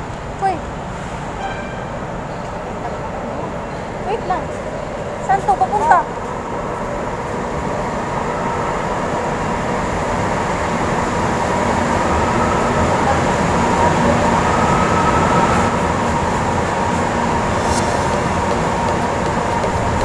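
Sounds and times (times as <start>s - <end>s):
metro train running: 0.0s - 20.0s.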